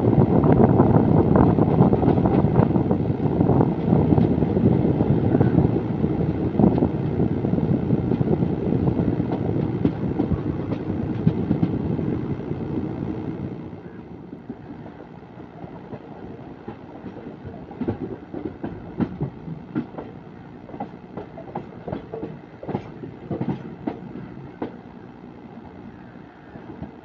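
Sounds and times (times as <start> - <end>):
train wheels rumbling on rails: 0.0 - 27.0
rail joint clicks: 1.1 - 25.0, 25.6 - 27.0.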